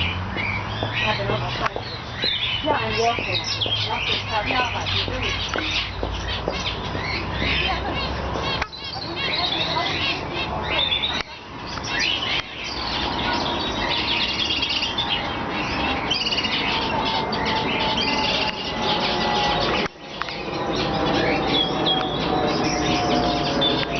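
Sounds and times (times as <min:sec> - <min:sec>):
birds chirping and squawking: 0:00.0 - 0:23.9.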